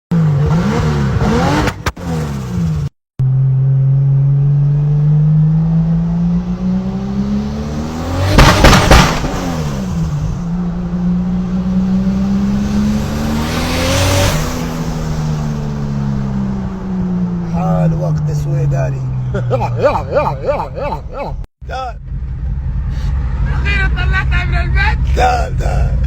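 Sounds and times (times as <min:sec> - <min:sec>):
car engine running: 0:00.1 - 0:26.0.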